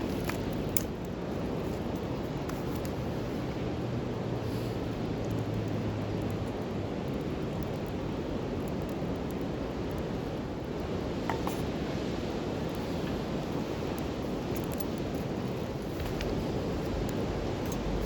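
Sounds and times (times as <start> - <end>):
campfire burning: 0.0 - 18.0
fire popping: 0.0 - 18.0.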